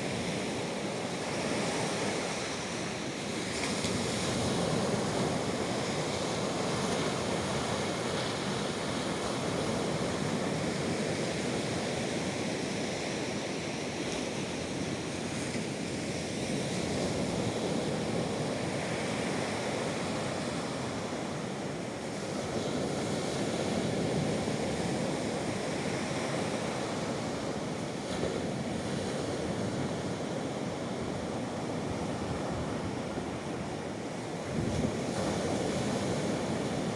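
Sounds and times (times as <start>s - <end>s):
waves breaking on shore: 0.0s - 36.9s.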